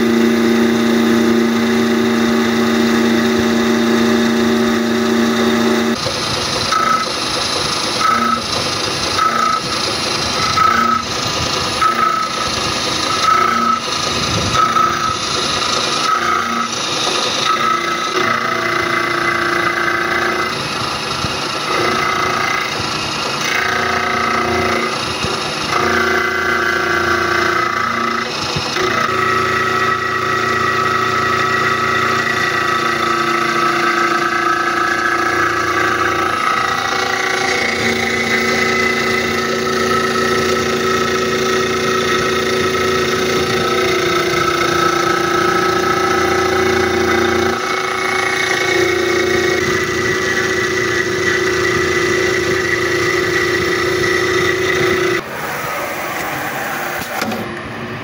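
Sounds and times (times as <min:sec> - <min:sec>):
milling machine whine: 0:00.0 - 0:58.0.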